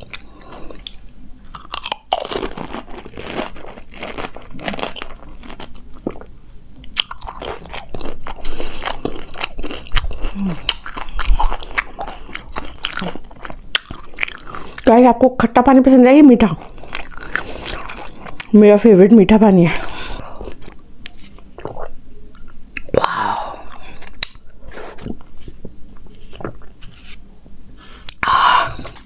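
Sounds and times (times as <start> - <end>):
crisp food crunching and chewing: 0.0 - 15.1, 16.4 - 18.6, 19.7 - 27.0.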